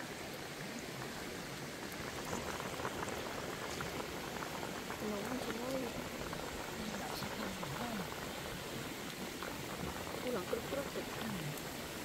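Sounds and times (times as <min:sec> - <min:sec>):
curry bubbling in pot: 0:00.0 - 0:12.0.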